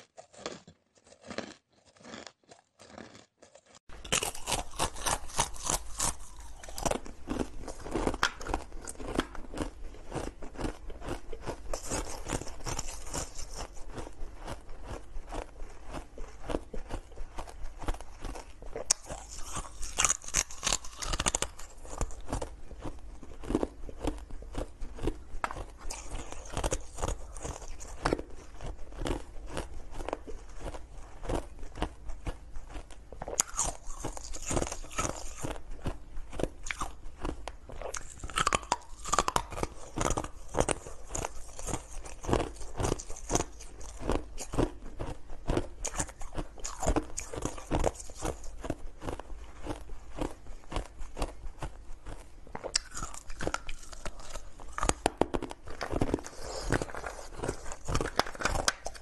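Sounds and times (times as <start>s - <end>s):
person crunching ice: 0.0s - 59.0s.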